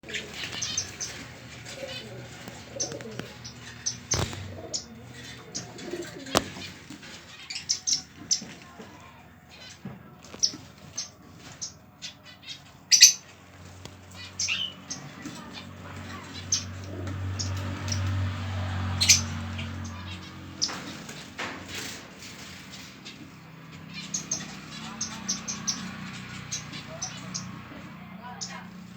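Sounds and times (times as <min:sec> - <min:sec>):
finches chirping: 0:00.0 - 0:28.9
wings fluttering: 0:00.0 - 0:28.9.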